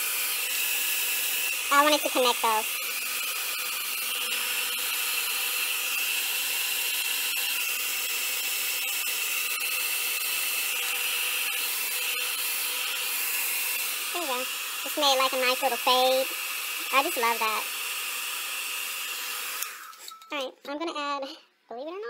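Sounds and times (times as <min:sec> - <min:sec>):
blow dryer running: 0:00.0 - 0:20.1.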